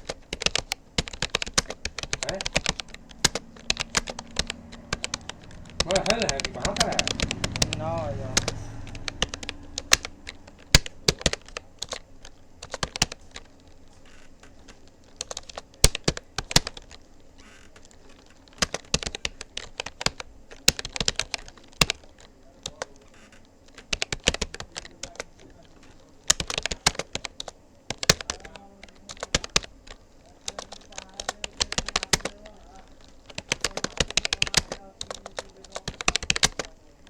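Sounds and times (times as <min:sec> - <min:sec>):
keyboard key clicks: 0:00.0 - 0:17.0, 0:17.8 - 0:32.5, 0:33.3 - 0:36.7.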